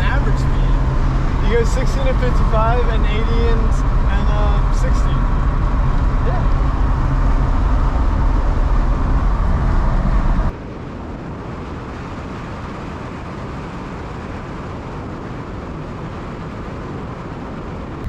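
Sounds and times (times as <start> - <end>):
truck engine and road noise: 0.0 - 18.0.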